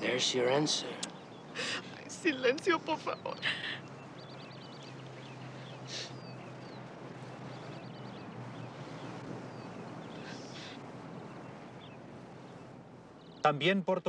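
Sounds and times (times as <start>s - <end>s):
faint steady hum: 0.0s - 13.7s
small birds chirping: 0.0s - 14.0s
bird trill: 0.2s - 13.5s.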